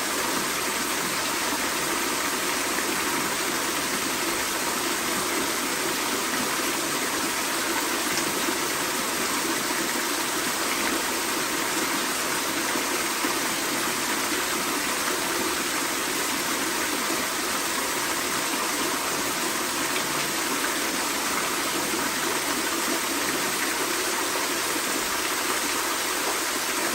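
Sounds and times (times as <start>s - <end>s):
small waterfall splashing: 0.0s - 26.9s.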